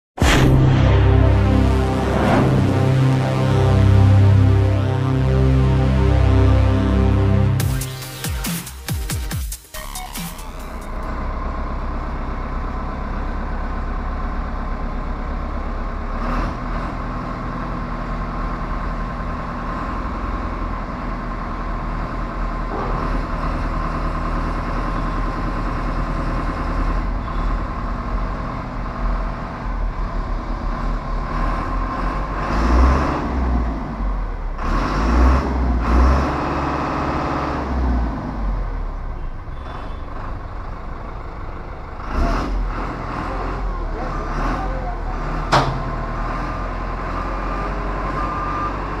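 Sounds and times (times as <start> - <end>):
heavy truck engine running: 0.2 - 49.0.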